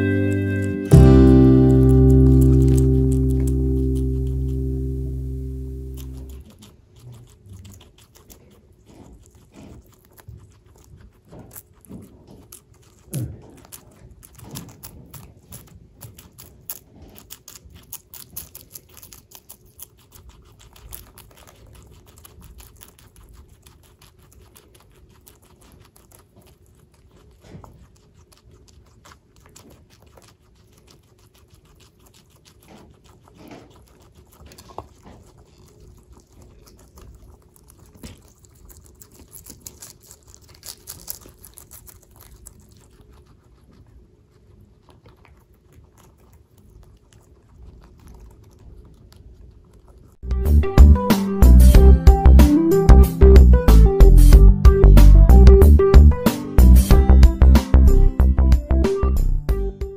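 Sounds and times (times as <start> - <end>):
guinea pigs chewing lettuce: 0.0 - 59.9.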